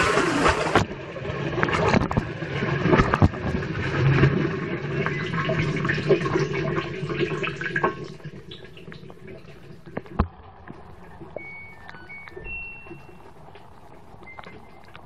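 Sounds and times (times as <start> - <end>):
clicks of water: 0.0 - 15.0
water sloshing in washing machine: 0.0 - 15.0.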